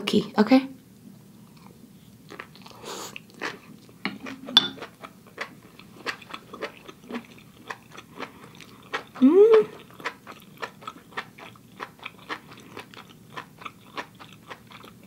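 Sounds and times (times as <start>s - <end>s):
wet chewing crunches: 1.4s - 15.0s.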